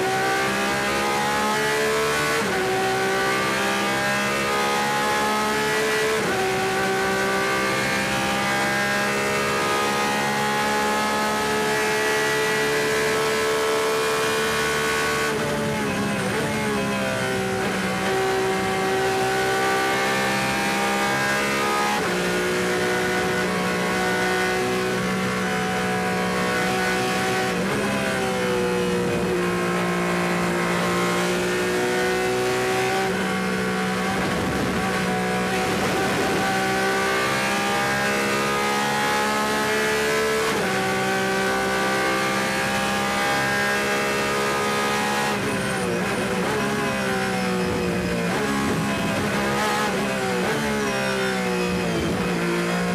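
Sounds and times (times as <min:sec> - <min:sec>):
race car engine at high revs: 0:00.0 - 0:52.9.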